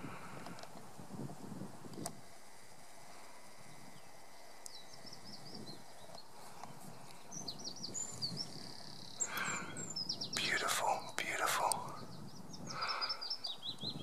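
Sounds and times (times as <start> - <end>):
faint outdoor background: 0.0 - 14.0
small birds chirping: 1.9 - 14.0.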